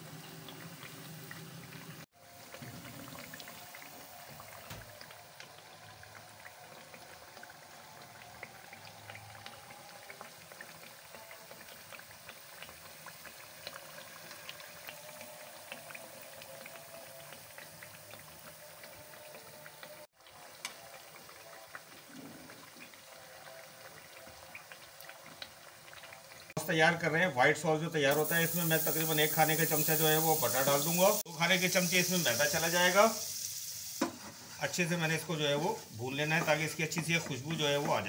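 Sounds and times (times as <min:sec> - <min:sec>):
food deep-frying in oil: 0:00.0 - 0:38.0.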